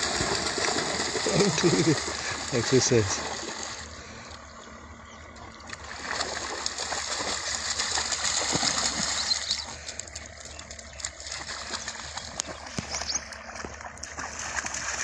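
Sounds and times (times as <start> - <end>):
dogs splashing through water: 0.0 - 4.4, 5.4 - 15.0.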